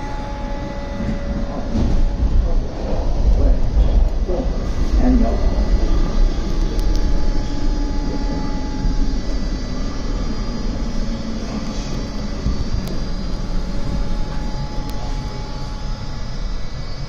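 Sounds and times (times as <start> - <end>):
train motor whine: 0.0 - 17.0
train wheels rumbling on rail: 0.0 - 17.0.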